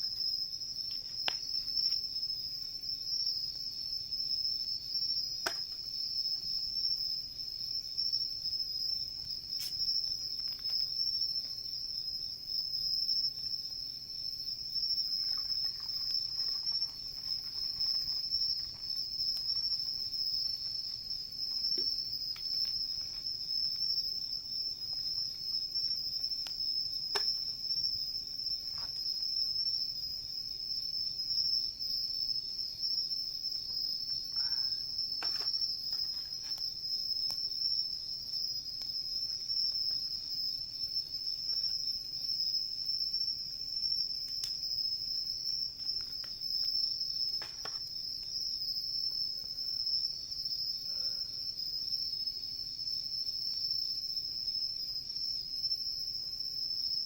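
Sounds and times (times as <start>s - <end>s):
crickets trilling: 0.0s - 57.0s
wood fire crackling: 0.1s - 4.0s, 5.3s - 49.3s.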